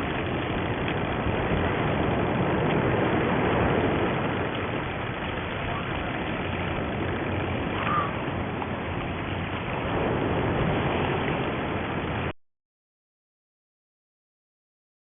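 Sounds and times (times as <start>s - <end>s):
boat motor idling: 0.0s - 12.3s
water noise: 0.0s - 12.4s
wind: 0.0s - 12.4s.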